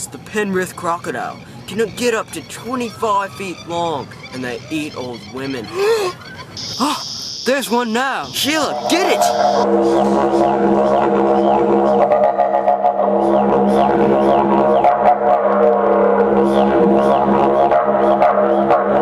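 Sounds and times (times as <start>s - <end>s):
didgeridoo drone: 0.4s - 19.0s.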